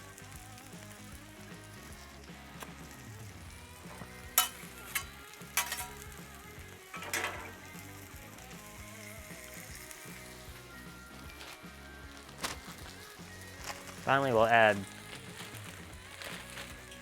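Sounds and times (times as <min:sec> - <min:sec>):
cheese sizzling on a griddle: 0:00.0 - 0:17.0.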